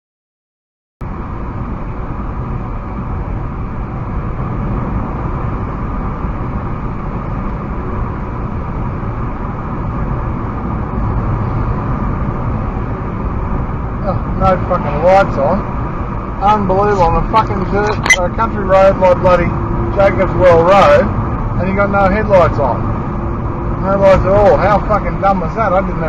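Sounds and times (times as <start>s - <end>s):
car engine drone: 1.0s - 26.0s
tyres on road: 1.0s - 26.0s.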